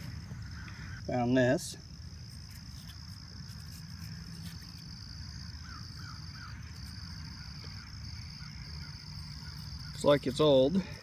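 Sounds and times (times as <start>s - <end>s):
insects trilling in grass: 0.0s - 11.0s.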